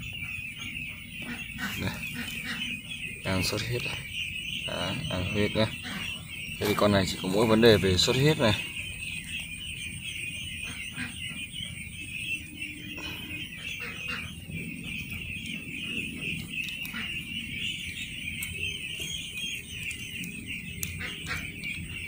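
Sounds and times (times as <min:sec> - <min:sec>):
ducklings peeping: 0:00.0 - 0:22.0.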